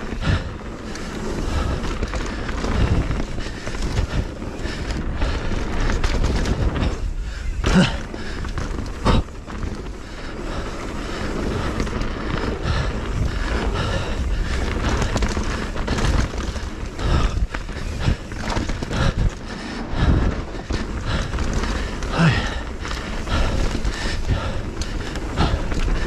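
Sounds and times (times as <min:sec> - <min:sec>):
bike knocks and rattles: 0:00.0 - 0:26.0
wind and tyre noise: 0:00.0 - 0:26.0.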